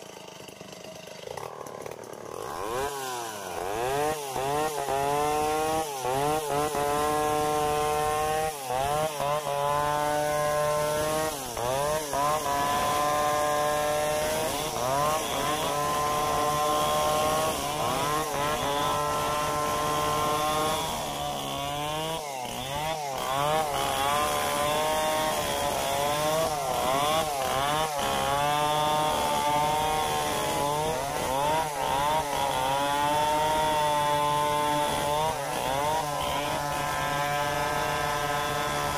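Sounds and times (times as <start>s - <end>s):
chainsaw cutting through logs: 0.0s - 38.9s.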